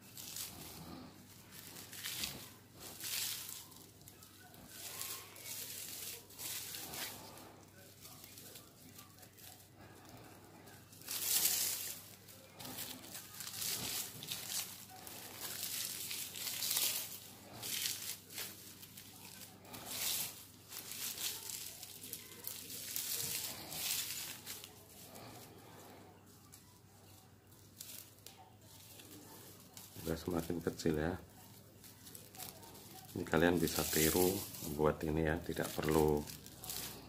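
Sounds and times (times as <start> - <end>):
plastic strips crinkling: 0.0 - 37.0.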